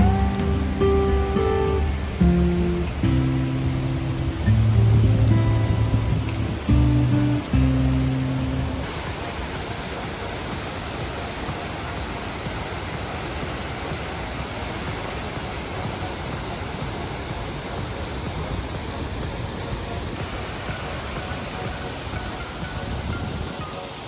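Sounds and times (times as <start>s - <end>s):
mountain creek rushing: 0.0s - 24.0s.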